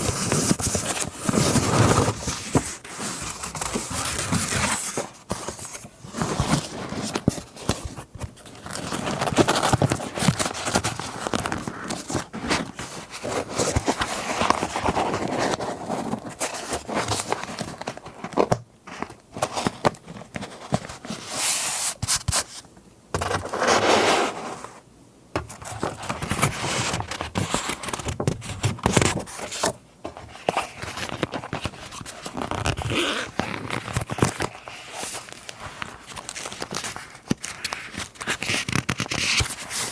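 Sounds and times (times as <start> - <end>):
paper rustling and crinkling: 0.0 - 24.8, 25.4 - 39.9.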